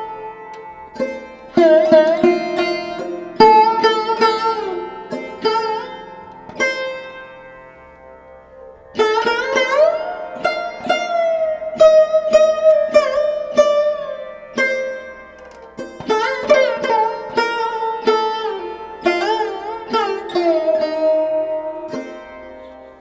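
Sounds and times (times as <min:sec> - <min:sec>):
plucked sitar-like notes: 0:00.0 - 0:23.0.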